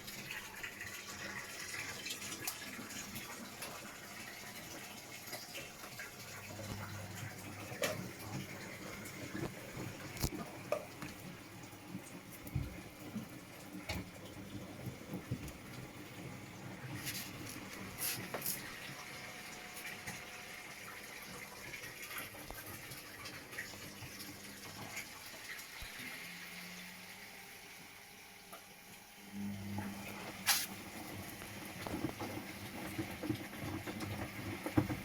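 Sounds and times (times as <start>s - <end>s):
washing machine running: 0.0s - 35.0s.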